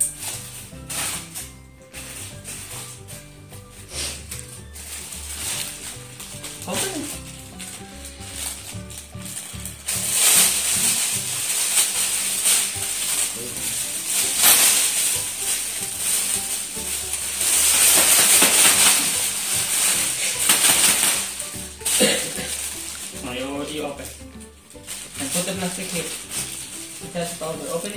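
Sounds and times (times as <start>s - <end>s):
plastic bag rustling and crinkling: 0.0s - 27.9s
plastic-wrapped packs pushed in: 0.0s - 27.9s.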